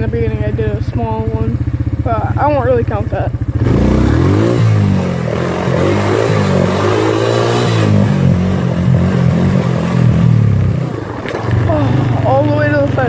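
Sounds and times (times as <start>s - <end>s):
atv engine revving hard: 0.0s - 13.0s.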